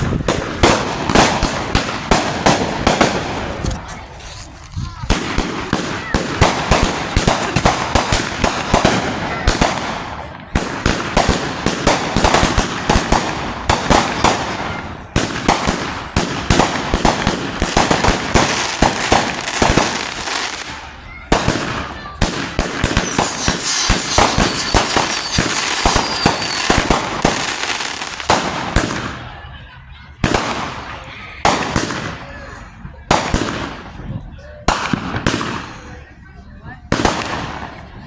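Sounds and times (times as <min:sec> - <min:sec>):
firecrackers banging and popping: 0:00.0 - 0:36.0, 0:36.9 - 0:38.0.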